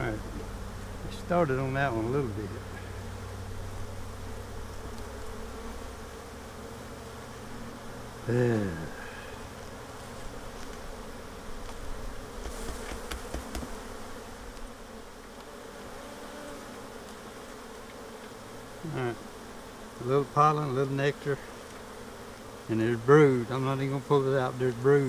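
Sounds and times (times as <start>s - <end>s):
bee buzzing past closely: 0.0s - 25.0s
honeybees buzzing: 0.0s - 25.0s.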